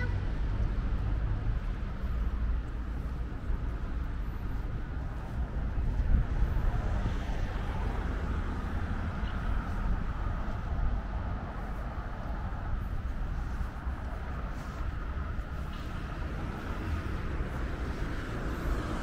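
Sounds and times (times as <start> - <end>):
city low rumble: 0.0 - 19.0.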